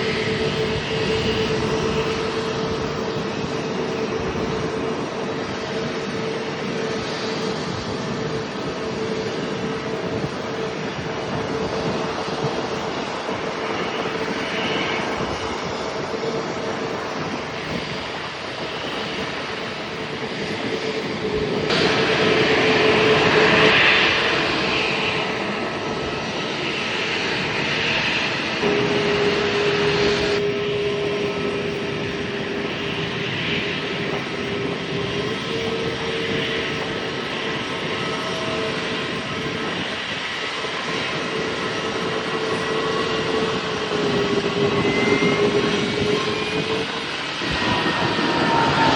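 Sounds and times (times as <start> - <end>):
aircraft engines whining: 0.0 - 48.9.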